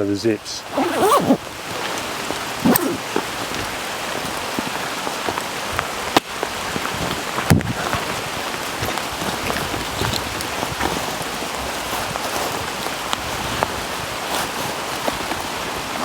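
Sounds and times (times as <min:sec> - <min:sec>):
rain pattering on a tarp: 0:00.0 - 0:16.0.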